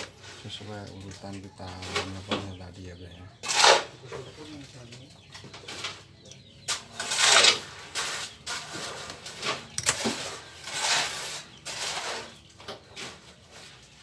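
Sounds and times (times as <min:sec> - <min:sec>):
plastic parts scraping and rustling: 0:00.0 - 0:02.6, 0:03.4 - 0:14.0.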